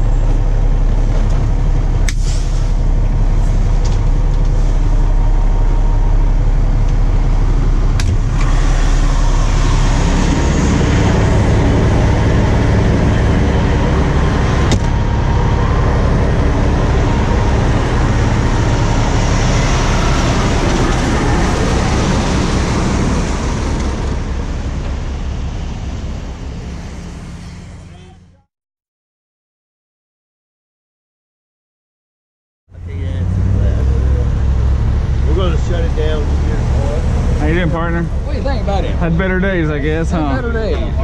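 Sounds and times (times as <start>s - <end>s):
highway traffic passing: 0.0s - 28.5s, 32.7s - 41.0s.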